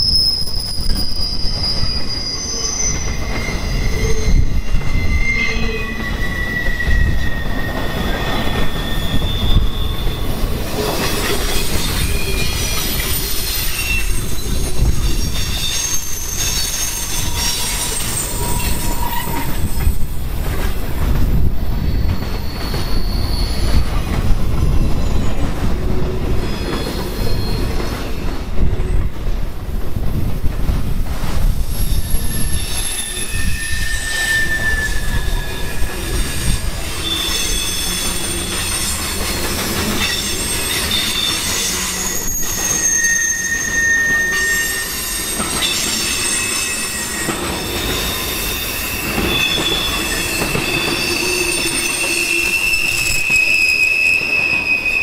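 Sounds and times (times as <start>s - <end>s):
wheel flanges squealing: 0.0s - 20.2s, 21.4s - 25.7s, 26.4s - 29.0s, 31.7s - 55.0s
train wheels rumbling and rattling: 0.0s - 55.0s.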